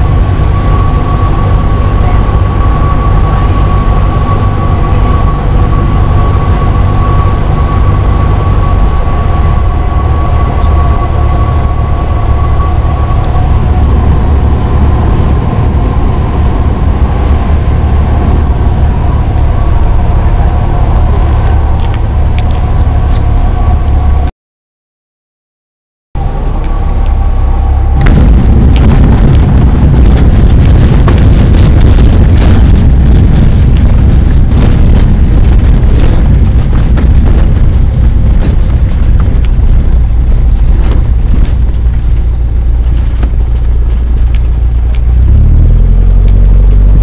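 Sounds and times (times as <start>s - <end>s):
airplane engine and propeller drone: 0.0s - 24.3s, 26.2s - 47.0s
steady high whine: 0.0s - 24.3s, 26.2s - 47.0s.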